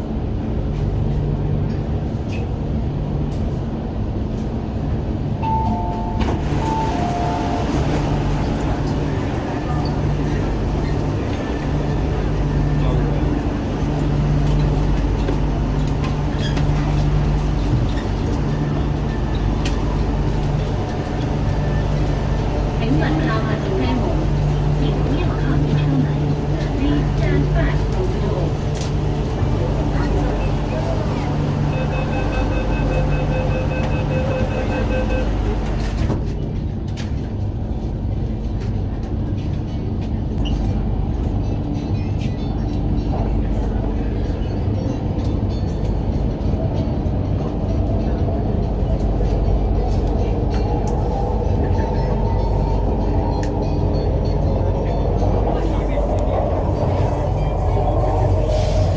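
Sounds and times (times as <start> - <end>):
metro train hum: 0.0 - 58.9.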